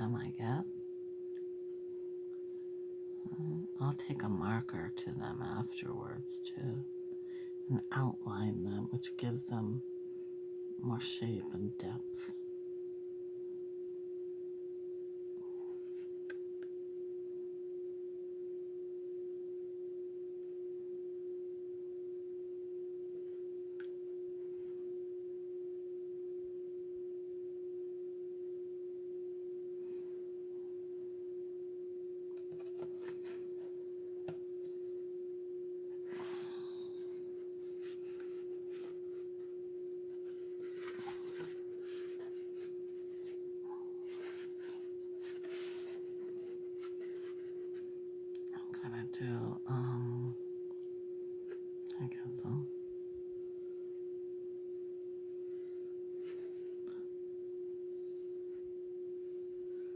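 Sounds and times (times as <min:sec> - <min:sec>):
steady single-pitched hum: 0:00.0 - 0:59.9.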